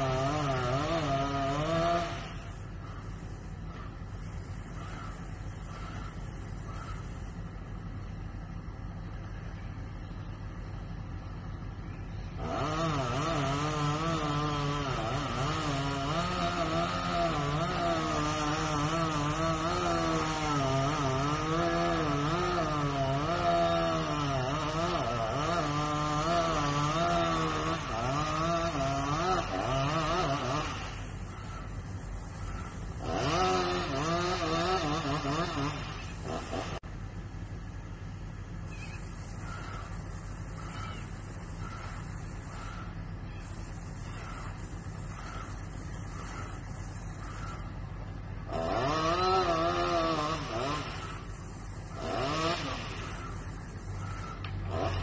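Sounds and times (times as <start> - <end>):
chainsaw cutting wood: 0.0 - 7.0, 12.4 - 36.9, 39.0 - 43.0, 43.7 - 47.8, 48.4 - 55.0.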